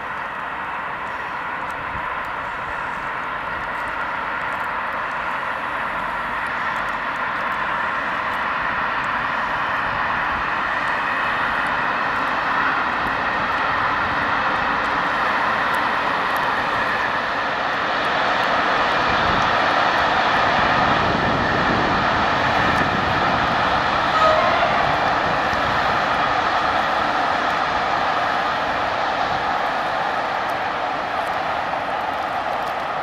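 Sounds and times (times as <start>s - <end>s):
train wheels rolling on rails: 0.0s - 33.0s.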